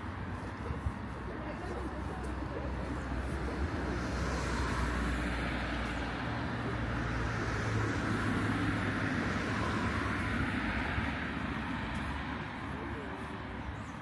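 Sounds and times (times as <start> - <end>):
steady traffic noise: 0.0 - 14.0.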